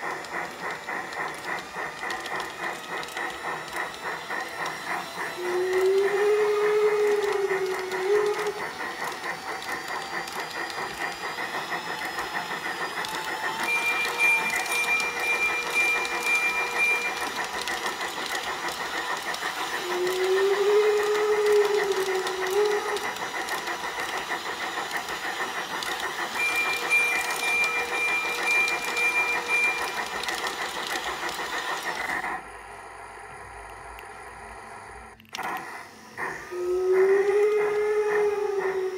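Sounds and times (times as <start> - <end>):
steam locomotive chuffing: 0.0 - 38.9.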